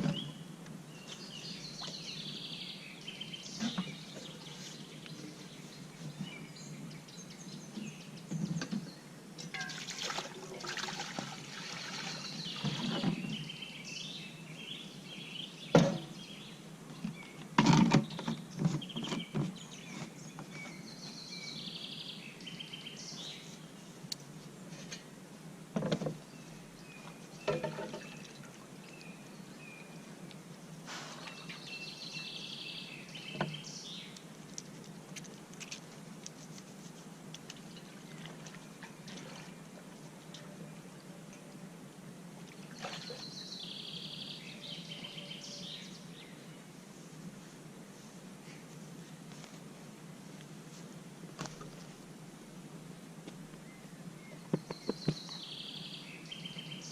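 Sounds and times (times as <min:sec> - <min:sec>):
songbirds singing: 0:00.0 - 0:36.0, 0:37.2 - 0:47.5, 0:53.2 - 0:56.9.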